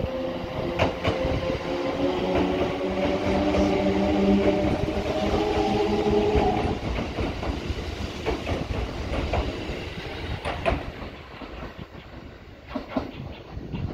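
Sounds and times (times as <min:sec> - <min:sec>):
electric train running: 0:00.0 - 0:13.9
train wheels clacking over rail joints: 0:02.2 - 0:13.9.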